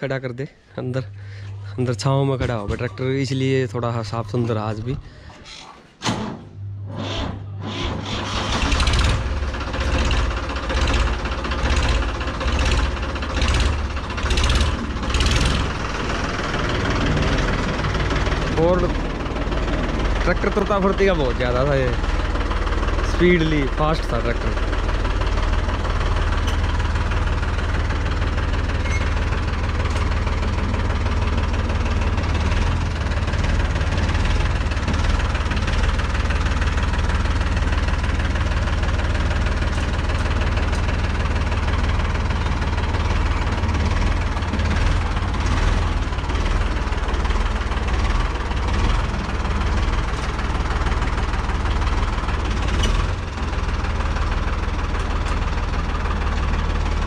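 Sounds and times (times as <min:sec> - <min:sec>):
tractor diesel engine running: 0:00.0 - 0:05.6, 0:06.5 - 0:57.0.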